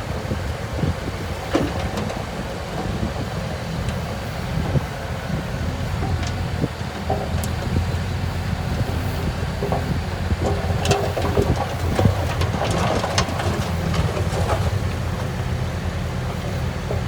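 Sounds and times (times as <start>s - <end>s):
heavy machinery diesel engine rumble: 0.0s - 17.0s.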